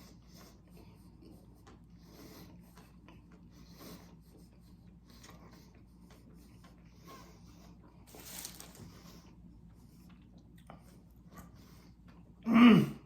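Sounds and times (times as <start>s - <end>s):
rustling while eating sandwich: 0.4s - 12.2s.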